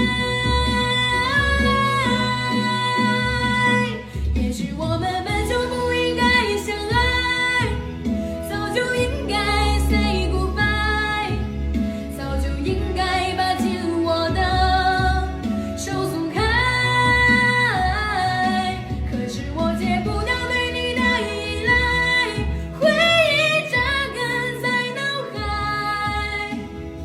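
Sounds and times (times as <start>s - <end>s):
woman singing pop ballad: 0.0s - 27.0s.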